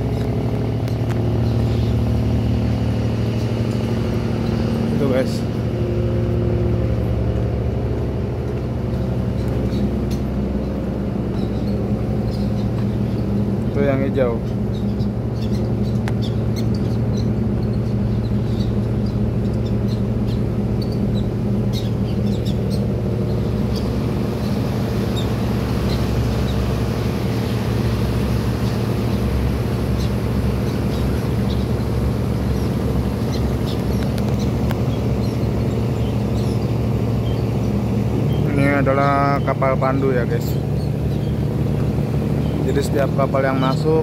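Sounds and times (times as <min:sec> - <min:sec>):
ship engine droning: 0:00.0 - 0:44.0
water wash: 0:00.0 - 0:44.0.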